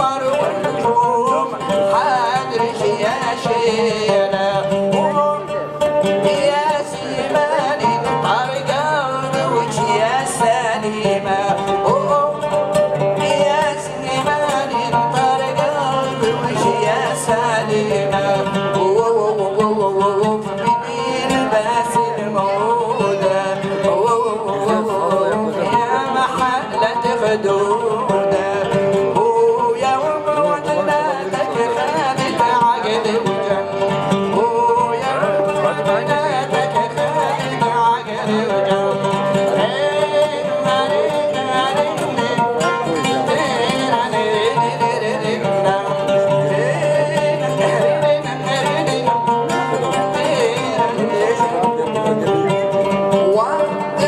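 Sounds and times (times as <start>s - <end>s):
oud plucked melody: 0.0s - 54.0s.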